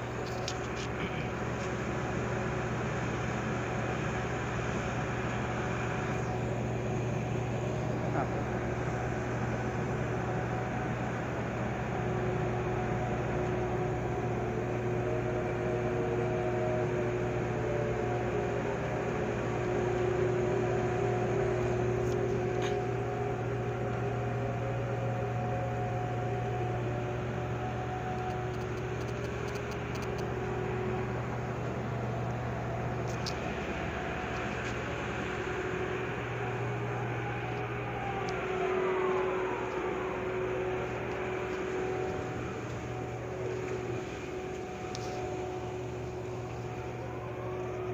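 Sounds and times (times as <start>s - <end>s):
crane machinery humming: 0.0s - 47.9s
machinery whining tones: 0.0s - 47.9s.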